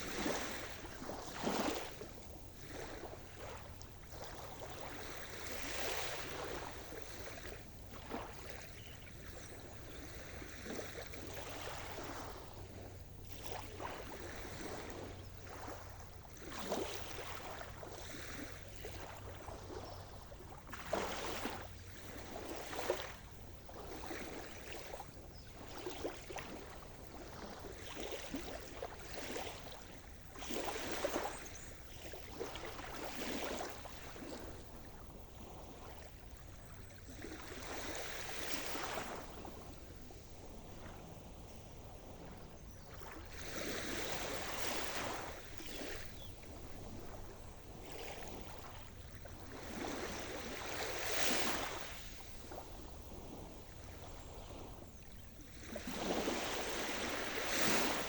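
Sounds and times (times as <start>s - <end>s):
small waves splashing: 0.0s - 58.0s
steady wash of water: 0.0s - 58.0s.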